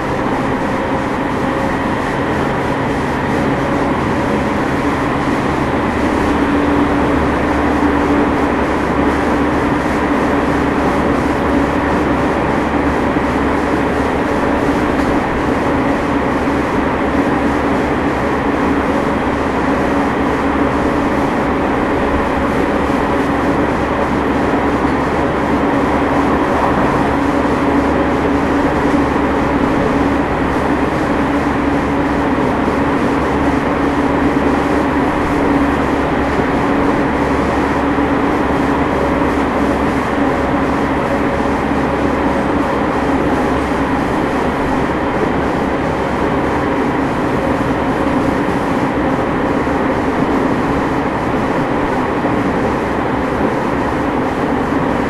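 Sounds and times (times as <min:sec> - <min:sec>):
air conditioning running: 0:00.0 - 0:55.0
steady low hum: 0:00.0 - 0:55.0
train rolling noise: 0:00.0 - 0:55.0.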